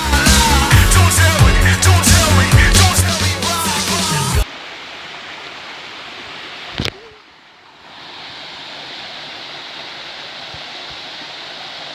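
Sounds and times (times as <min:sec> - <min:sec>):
waterfall river rushing: 0:00.0 - 0:11.9.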